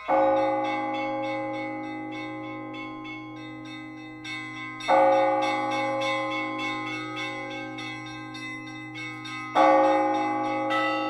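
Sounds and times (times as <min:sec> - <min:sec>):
deep church bell ringing: 0:00.0 - 0:11.0
higher bells striking: 0:00.0 - 0:11.0.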